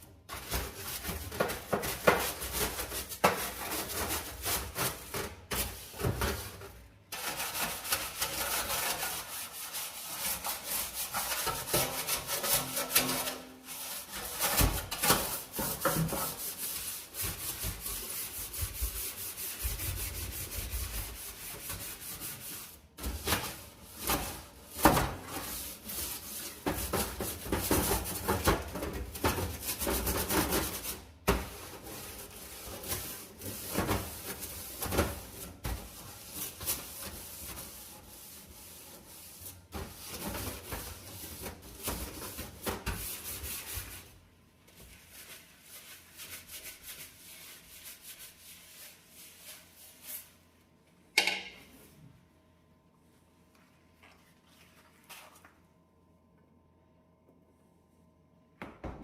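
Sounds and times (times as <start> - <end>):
brush scrubbing a stovetop: 0.0 - 50.8, 53.2 - 55.9.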